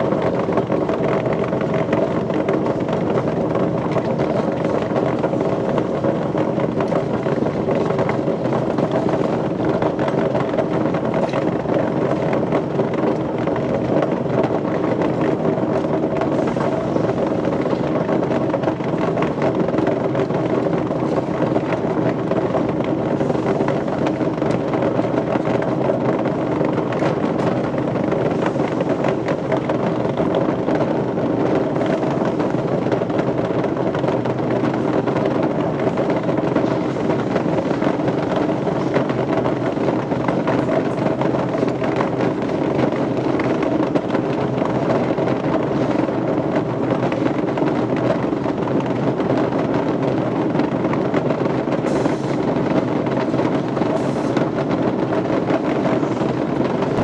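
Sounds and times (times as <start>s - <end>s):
loud machinery noise: 0.0s - 57.0s.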